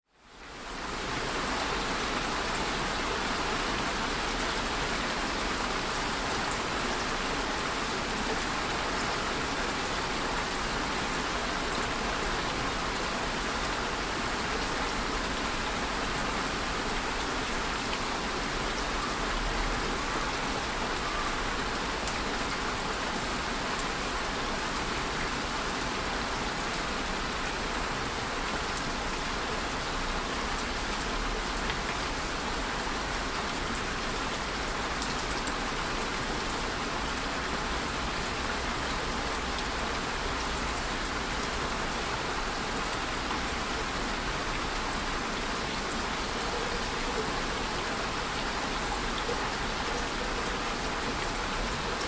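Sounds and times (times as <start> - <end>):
rain pattering on a surface: 0.1 - 52.0.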